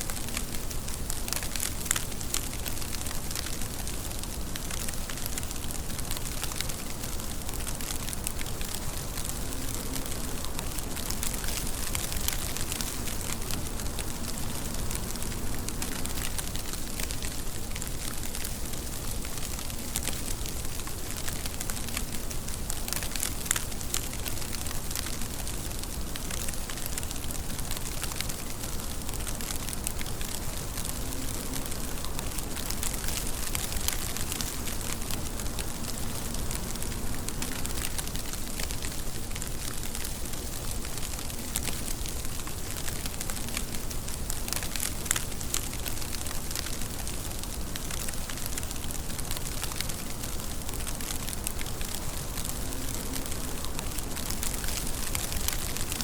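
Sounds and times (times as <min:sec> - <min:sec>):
raindrop ticks: 0:00.0 - 0:56.0
steady rain falling: 0:00.0 - 0:56.0.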